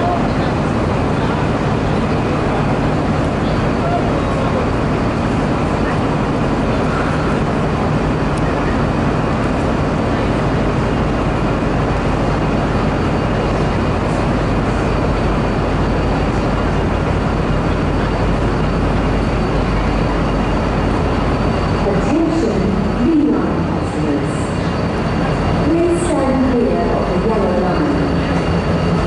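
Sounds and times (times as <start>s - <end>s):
diesel train engines humming: 0.0s - 29.0s.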